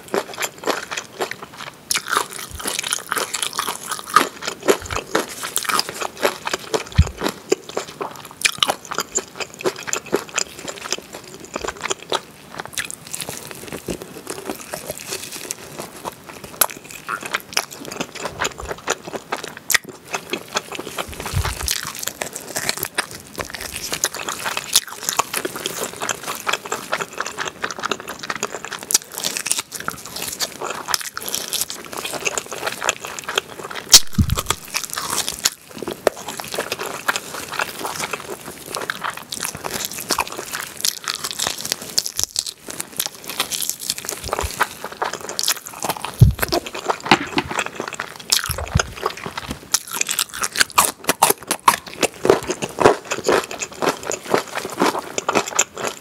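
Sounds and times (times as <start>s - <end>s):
biting and chewing meat: 0.0s - 56.0s.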